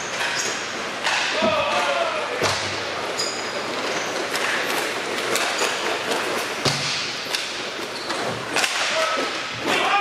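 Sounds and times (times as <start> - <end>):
skate wheels rushing: 0.0 - 10.0
hockey sticks knocking puck: 0.1 - 10.0.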